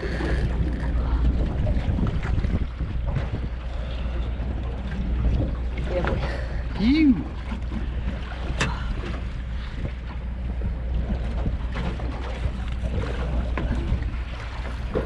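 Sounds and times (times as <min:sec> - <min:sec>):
water lapping against a hull: 0:00.0 - 0:15.0
wind rumble on microphone: 0:00.0 - 0:15.0.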